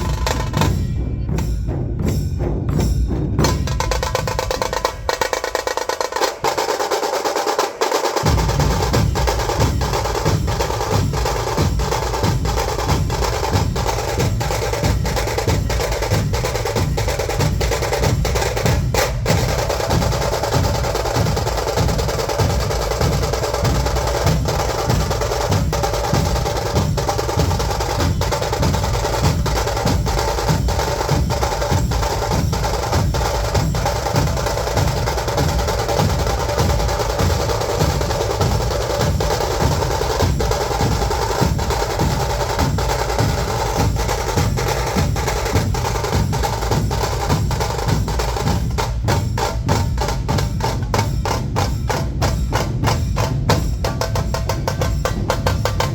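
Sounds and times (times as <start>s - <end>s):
dhol drums beating: 0.0s - 55.9s
tasha drums rattling: 0.0s - 55.9s.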